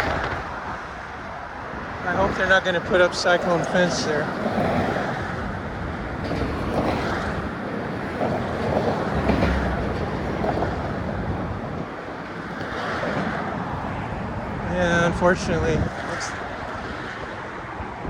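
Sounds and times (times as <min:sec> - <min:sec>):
road traffic rumble: 0:00.0 - 0:18.0
wind buffeting microphone: 0:00.0 - 0:18.0.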